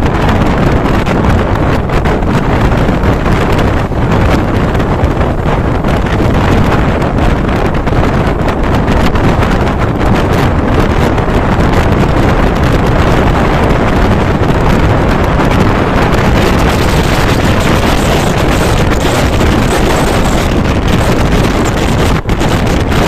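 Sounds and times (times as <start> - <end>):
train coach rumbling on track: 0.0 - 23.0
wind buffeting microphone: 0.0 - 23.0.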